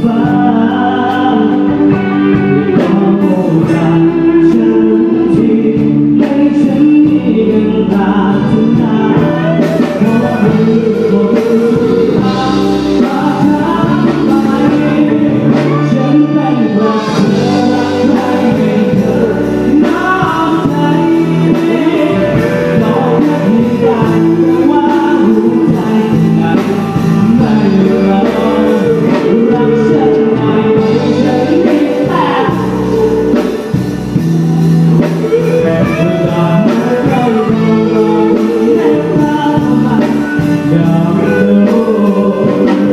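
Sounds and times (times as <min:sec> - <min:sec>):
live band through pa: 0:00.0 - 0:42.9
person singing: 0:00.0 - 0:42.9.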